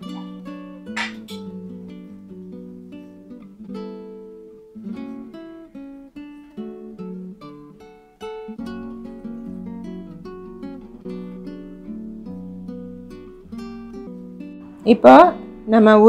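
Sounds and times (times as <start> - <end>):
acoustic guitar melody: 0.0 - 16.0.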